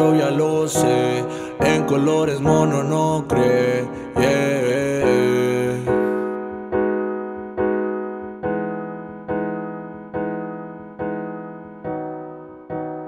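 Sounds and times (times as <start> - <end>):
electric piano chords: 0.0 - 13.0.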